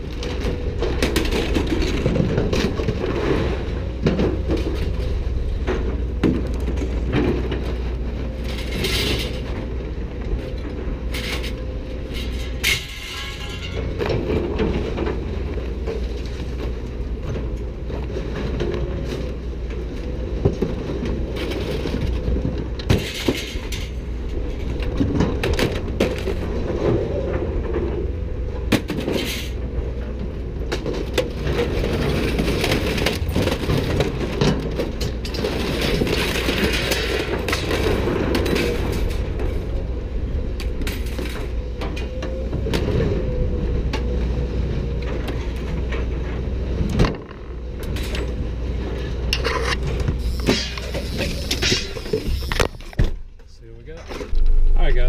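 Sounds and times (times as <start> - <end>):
heavy machinery rumbling: 0.0 - 55.0
scrap metal clanking and banging: 0.0 - 55.0.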